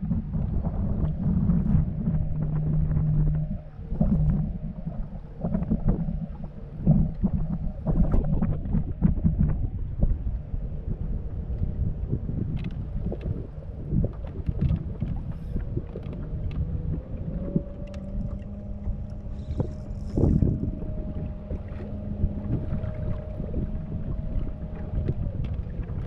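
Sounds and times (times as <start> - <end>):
boat motor hum: 0.0 - 26.0
wind buffeting microphone: 0.0 - 26.0.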